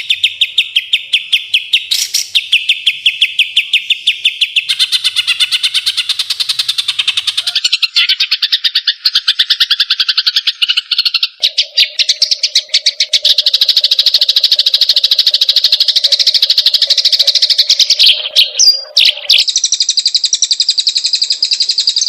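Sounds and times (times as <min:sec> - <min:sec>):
bird rapid rattling trill: 0:00.0 - 0:22.0.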